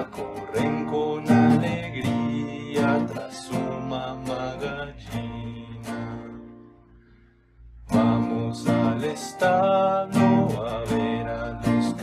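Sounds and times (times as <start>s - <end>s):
person singing: 0.0s - 6.5s, 7.9s - 12.0s
acoustic guitar strumming: 0.0s - 12.0s.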